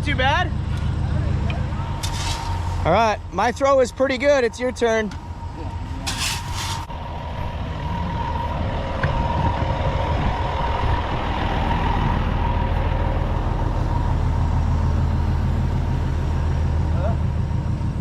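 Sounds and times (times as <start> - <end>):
engine rumbling: 0.0 - 18.0
thin steady whine: 0.0 - 18.0.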